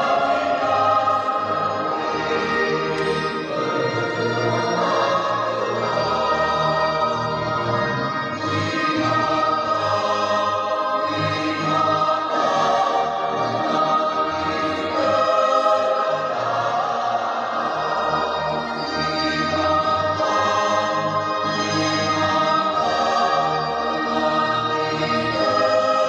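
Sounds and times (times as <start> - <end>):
choir singing a hymn: 0.0 - 26.0
keyboard accompaniment: 0.0 - 26.0.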